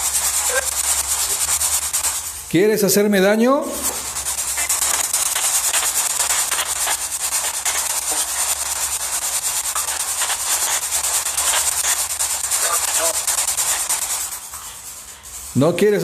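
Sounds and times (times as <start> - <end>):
flickering static hiss: 0.0 - 16.0.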